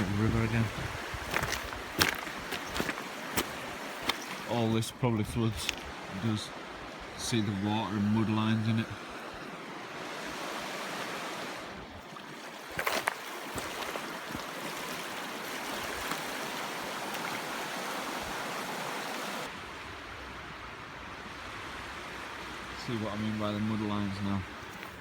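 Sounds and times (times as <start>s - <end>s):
river water running: 0.0s - 25.0s.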